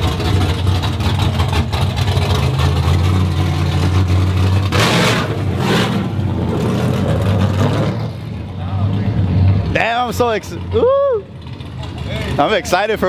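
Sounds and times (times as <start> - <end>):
pickup truck engine driving past: 0.0 - 13.0.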